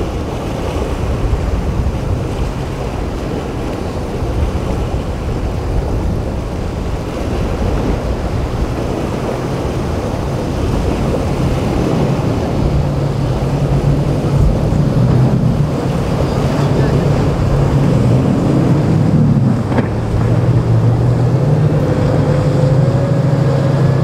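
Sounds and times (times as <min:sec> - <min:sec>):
boat engines running: 0:00.0 - 0:24.0
surf: 0:00.0 - 0:24.0
wind on microphone: 0:00.0 - 0:24.0.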